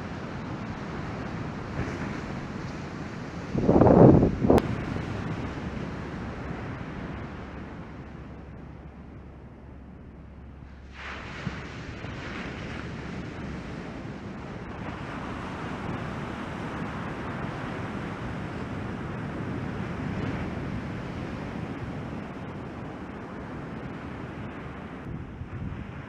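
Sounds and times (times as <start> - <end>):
waves breaking on beach: 0.0 - 9.1, 10.5 - 26.0
wind buffeting microphone: 0.0 - 26.0.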